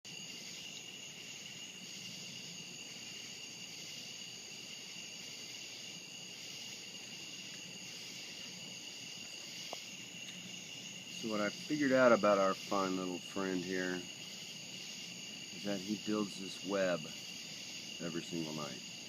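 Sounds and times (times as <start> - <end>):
crickets trilling: 0.0 - 19.0
soft background hiss: 0.1 - 19.0.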